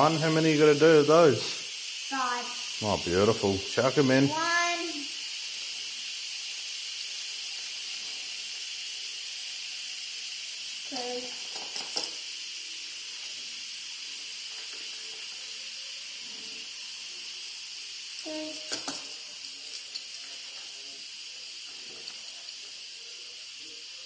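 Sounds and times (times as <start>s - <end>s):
pressure cooker venting steam: 0.0s - 24.0s.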